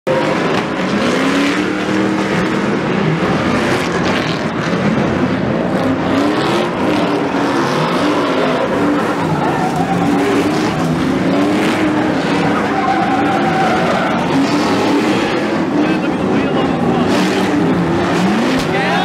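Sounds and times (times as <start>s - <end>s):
race truck engines revving: 0.0s - 19.0s.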